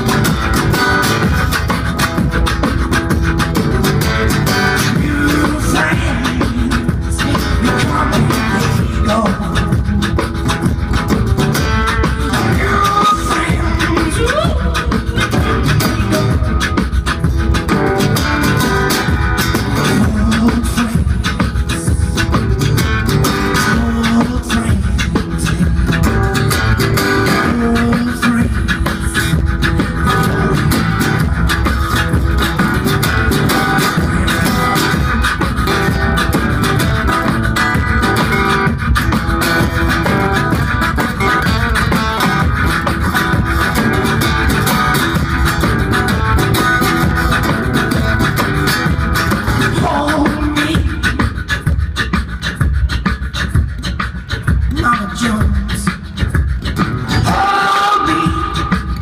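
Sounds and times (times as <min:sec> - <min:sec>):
beatboxing into a microphone: 0:00.0 - 0:59.0
resonator guitar blues groove: 0:00.0 - 0:59.0.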